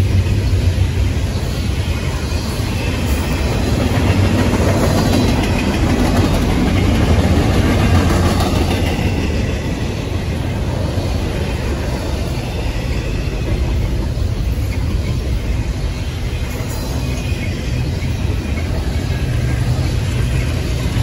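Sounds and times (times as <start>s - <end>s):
freight cars rolling on rails: 0.0s - 21.0s.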